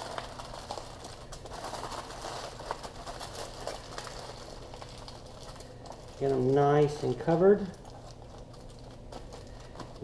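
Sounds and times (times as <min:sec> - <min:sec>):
aluminum foil crinkling: 0:00.0 - 0:10.0.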